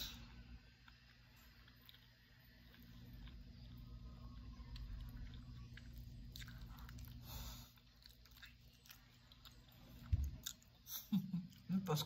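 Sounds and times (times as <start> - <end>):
person biting and chewing: 0.8 - 10.8.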